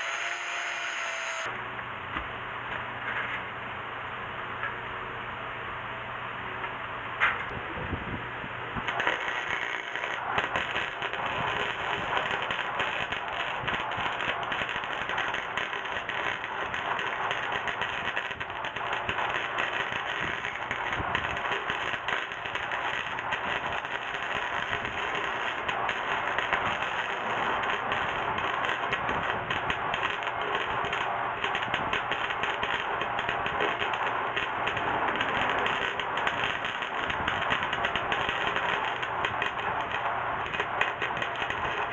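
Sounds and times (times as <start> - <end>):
welding arc crackling: 0.0 - 1.5, 8.8 - 41.9.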